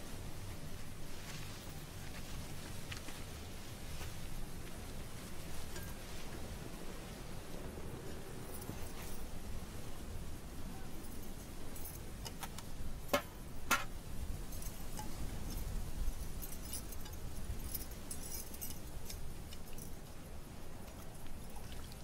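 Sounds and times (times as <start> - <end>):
low wind rumble: 0.0 - 22.0
light metallic clinks and jingles: 0.4 - 22.0.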